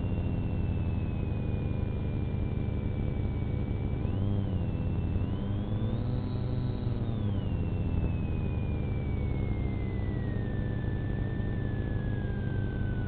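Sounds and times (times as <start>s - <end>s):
car engine hum with high whine: 0.0s - 13.0s.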